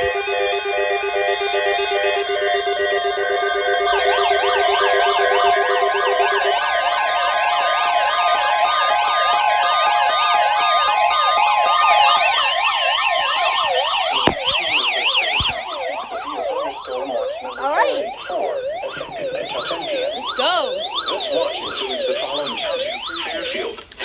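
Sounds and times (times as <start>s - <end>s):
warbling siren alarms: 0.0s - 23.8s.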